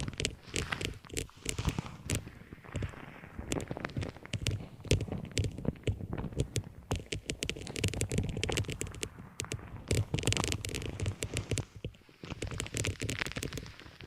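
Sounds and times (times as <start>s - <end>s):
objects tapping and scratching: 0.0s - 14.0s.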